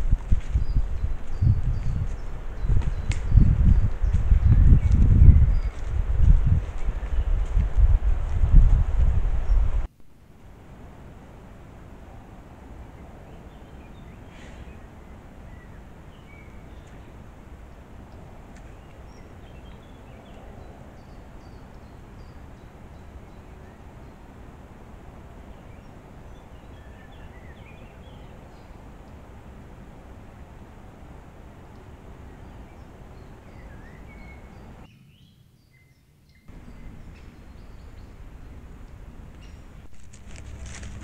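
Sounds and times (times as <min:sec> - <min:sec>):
low rumble and hiss: 0:00.0 - 0:34.9.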